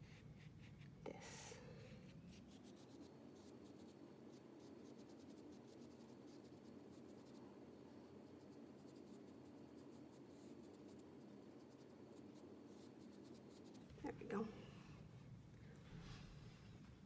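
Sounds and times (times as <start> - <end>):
paintbrush scratching on paper: 0.0 - 14.5
steady low hum: 0.0 - 17.0.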